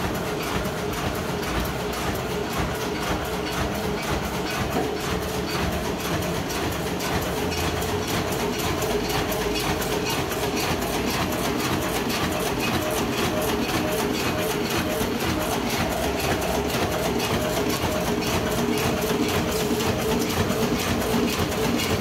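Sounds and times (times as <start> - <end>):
punching machine clatter: 0.0 - 22.0.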